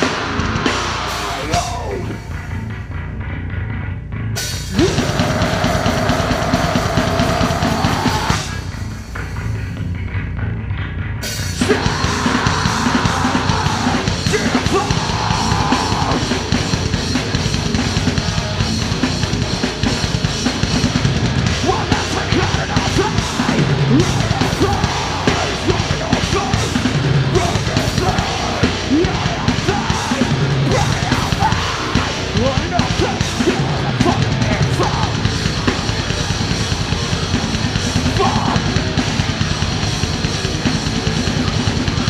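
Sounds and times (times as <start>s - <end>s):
pounding drum kit: 0.0s - 10.5s, 11.2s - 42.0s
distorted guitars: 0.0s - 42.0s
metal band playing live: 0.0s - 42.0s.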